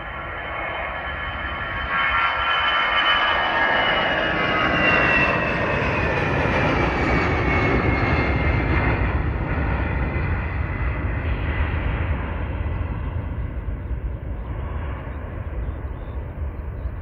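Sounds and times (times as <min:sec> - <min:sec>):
jet engine roar with whine: 0:00.0 - 0:17.0.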